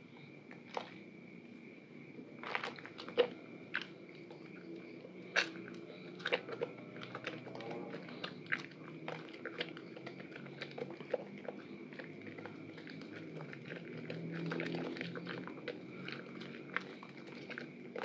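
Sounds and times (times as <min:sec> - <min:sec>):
faint steady hum: 0:00.0 - 0:18.0
wet soap squelching: 0:02.4 - 0:18.0.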